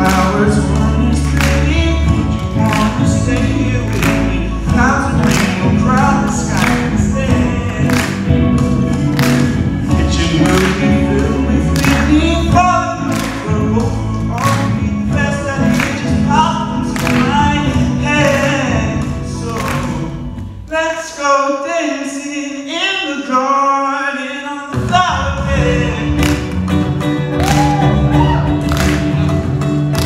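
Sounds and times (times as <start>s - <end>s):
man singing: 0.0s - 28.7s.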